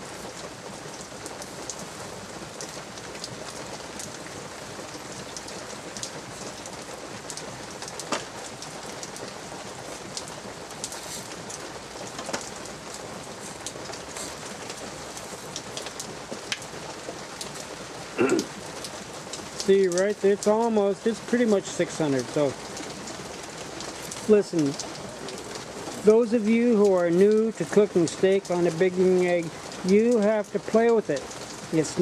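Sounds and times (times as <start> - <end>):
light rain: 0.0 - 32.0
raindrops ticking: 0.0 - 32.0.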